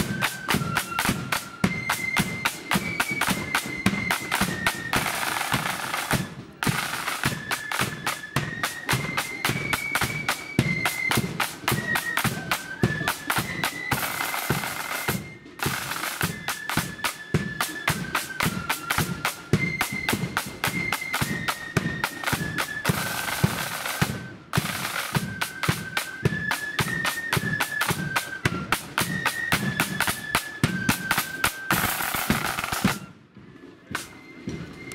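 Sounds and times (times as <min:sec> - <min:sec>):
marching snare drums: 0:00.0 - 0:34.9.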